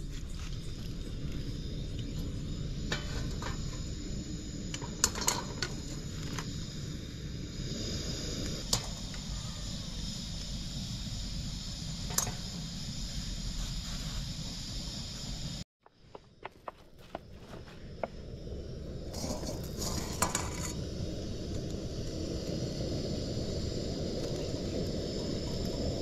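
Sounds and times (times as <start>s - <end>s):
steady low rumble: 0.0s - 15.6s, 16.2s - 26.0s.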